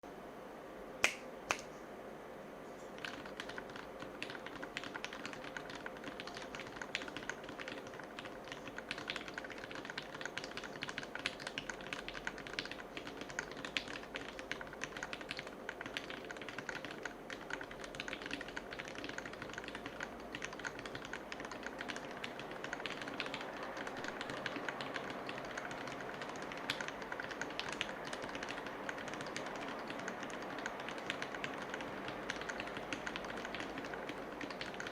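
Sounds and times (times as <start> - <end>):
mechanical keyboard typing: 3.0 - 34.9.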